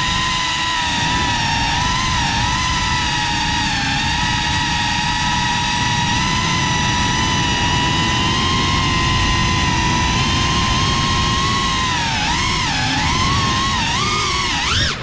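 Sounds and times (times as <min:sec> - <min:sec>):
drone motors whining: 0:00.0 - 0:15.0
wind rumble on microphone: 0:00.0 - 0:15.0.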